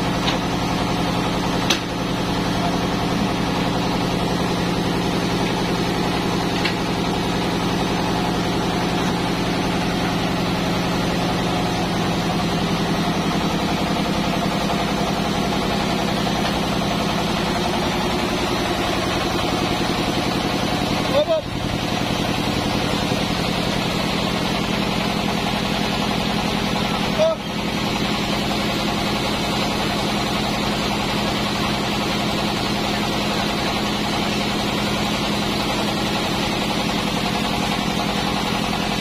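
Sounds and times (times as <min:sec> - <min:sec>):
band saw machine hum: 0:00.0 - 0:39.0.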